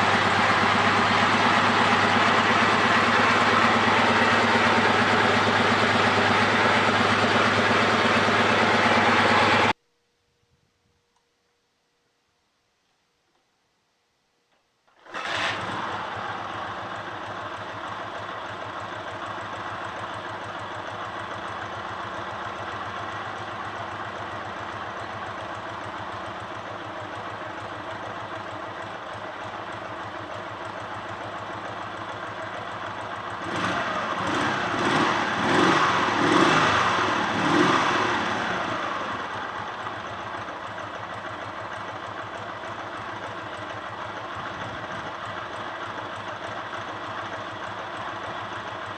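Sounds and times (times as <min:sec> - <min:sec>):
motorcycle engine idling: 0:00.0 - 0:09.8, 0:15.0 - 0:48.9
motorcycle engine revving: 0:00.0 - 0:09.8, 0:15.0 - 0:48.9.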